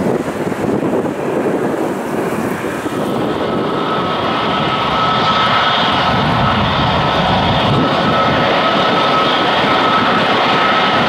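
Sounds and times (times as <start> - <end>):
high engine whine: 0.0 - 11.0
jet engines rumbling: 0.0 - 11.0
wind on microphone: 0.0 - 11.0.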